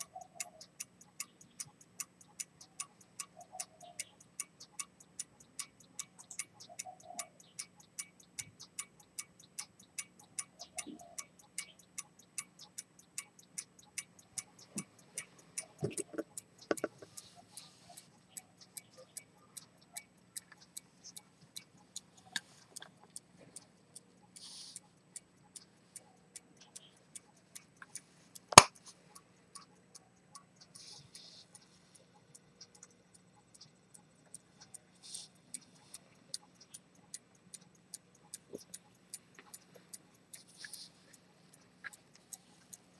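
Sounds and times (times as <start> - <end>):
pocket watch ticking: 0.0 - 42.9.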